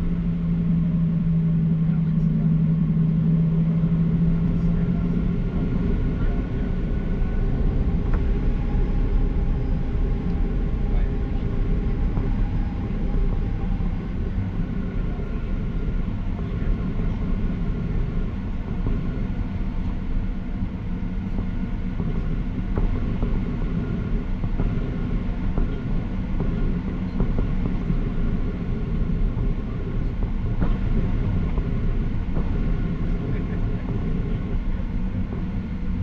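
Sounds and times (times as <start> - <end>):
faint steady tones: 0.0 - 36.0
jet engines droning: 0.0 - 36.0.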